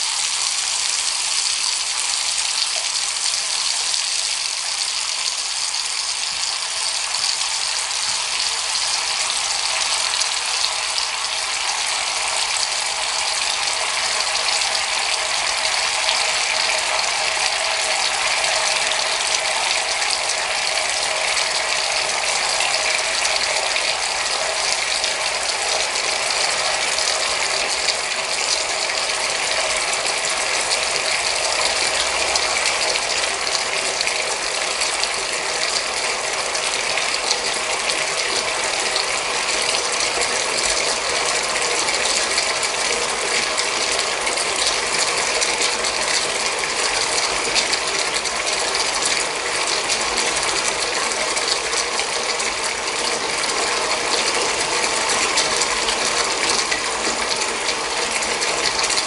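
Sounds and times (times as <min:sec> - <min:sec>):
bath water rushing hiss: 0:00.0 - 0:59.0.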